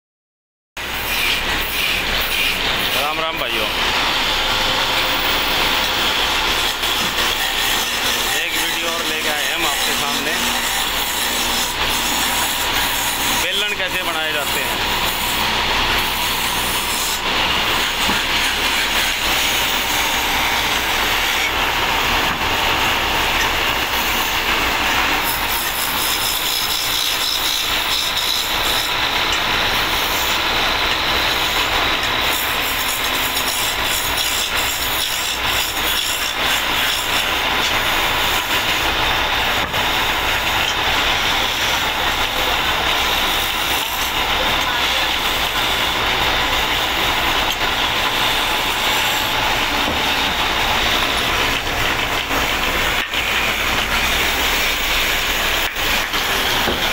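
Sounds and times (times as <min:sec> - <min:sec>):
chisel cutting wood on a lathe: 0:00.8 - 0:56.9
faint lathe whine: 0:00.9 - 0:56.9.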